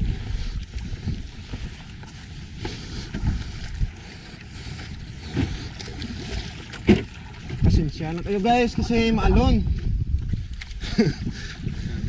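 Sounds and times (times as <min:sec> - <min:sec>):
waves slapping boat hull: 0:00.0 - 0:12.0
wind buffeting microphone: 0:00.0 - 0:12.0.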